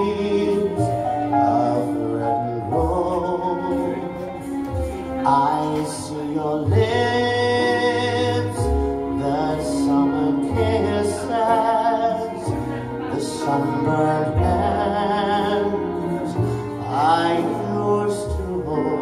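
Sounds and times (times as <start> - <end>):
instrumental backing music: 0.0 - 19.0
man singing into microphone: 0.0 - 19.0.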